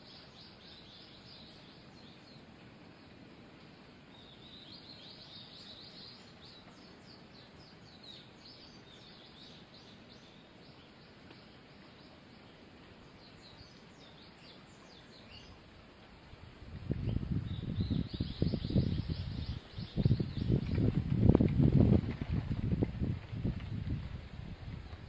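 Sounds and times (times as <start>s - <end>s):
small birds chirping: 0.0s - 15.7s, 16.7s - 23.9s
steady low background noise: 0.0s - 25.0s.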